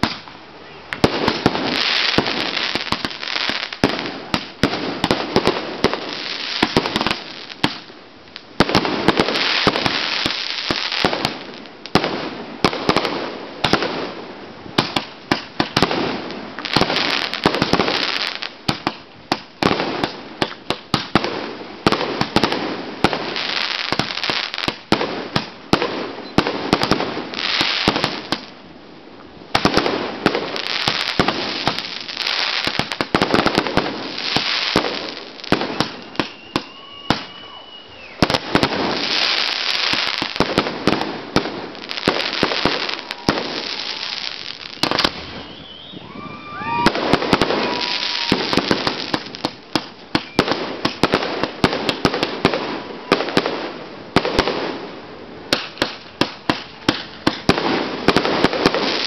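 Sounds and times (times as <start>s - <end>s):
fireworks crackling and hiss: 0.0s - 59.0s
fireworks bangs: 1.0s - 7.9s, 8.6s - 28.5s, 29.5s - 54.9s, 55.5s - 59.0s.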